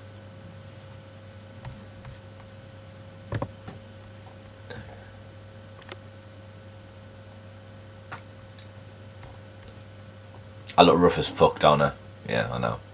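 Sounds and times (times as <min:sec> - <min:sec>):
steady hum: 0:00.0 - 0:12.9.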